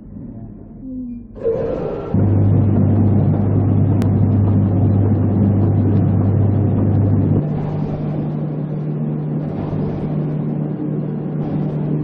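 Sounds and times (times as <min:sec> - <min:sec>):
quieter machine hum: 0:00.0 - 0:12.0
vibratory feeder humming: 0:00.0 - 0:12.0.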